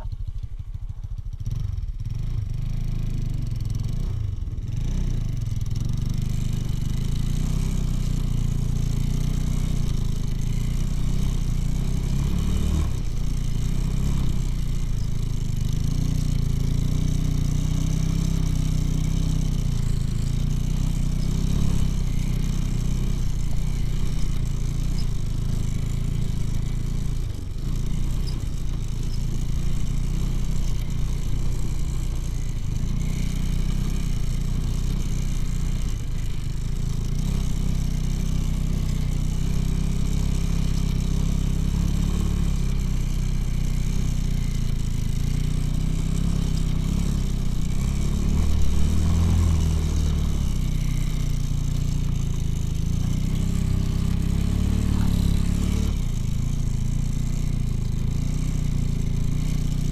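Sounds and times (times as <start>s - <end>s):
motorcycle engine running under load: 0.0s - 59.9s.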